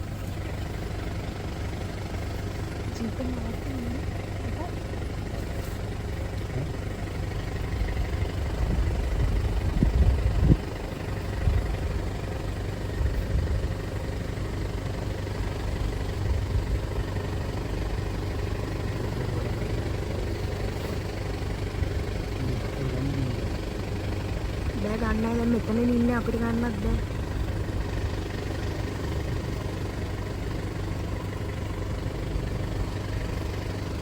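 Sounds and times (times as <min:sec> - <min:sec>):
vehicle engine running at low revs: 0:00.0 - 0:34.0.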